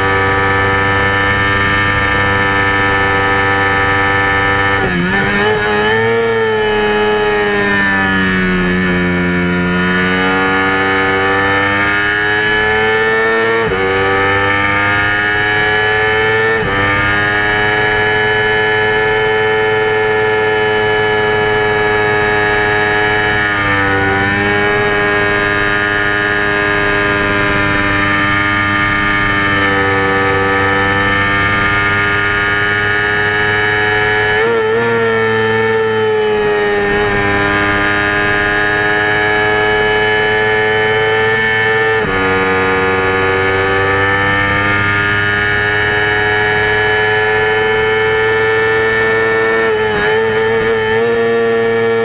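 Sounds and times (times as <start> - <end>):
motorcycle engine at high revs: 0.0 - 52.0.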